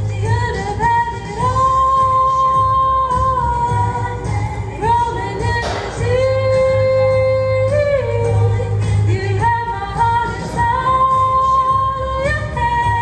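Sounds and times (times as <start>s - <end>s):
backing track with bass: 0.0s - 13.0s.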